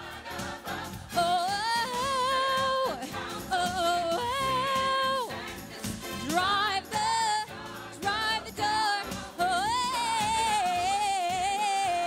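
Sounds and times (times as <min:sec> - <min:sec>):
instrumental backing: 0:00.0 - 0:12.0.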